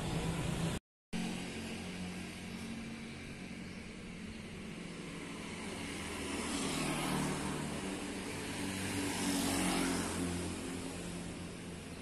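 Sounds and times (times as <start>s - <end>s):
motor scooter passing: 0.0s - 12.0s
motor vehicle passing: 0.0s - 12.0s.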